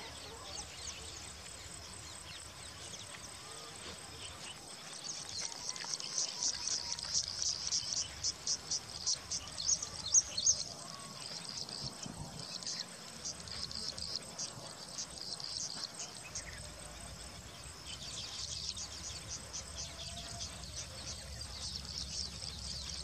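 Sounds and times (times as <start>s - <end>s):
weaver birds chirping: 0.0s - 23.0s.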